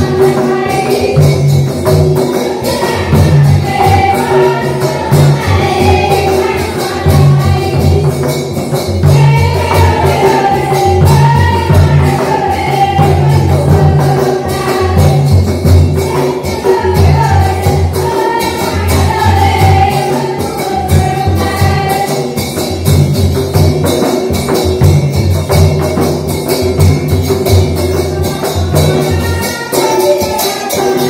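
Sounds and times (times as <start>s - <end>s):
voices singing together: 0.0s - 24.9s, 25.8s - 31.0s
jingling percussion: 0.0s - 31.0s
rhythmic drum beat: 0.0s - 31.0s.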